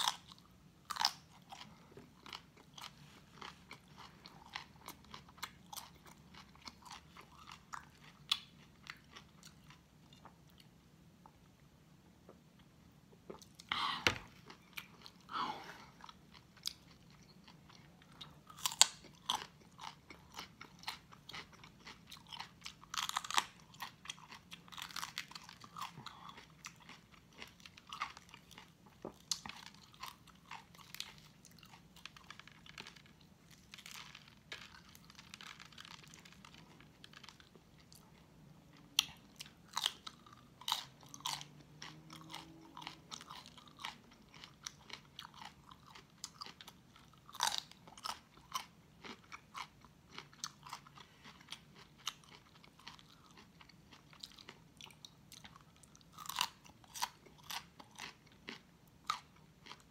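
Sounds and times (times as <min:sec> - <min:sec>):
chewing crunchy food: 0:00.0 - 0:11.4, 0:12.3 - 0:59.9.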